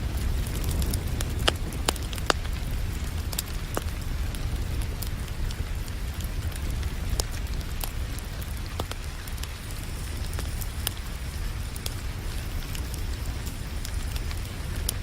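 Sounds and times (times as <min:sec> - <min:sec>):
rain pattering: 0:00.0 - 0:15.0
wood fire crackling and popping: 0:00.0 - 0:15.0.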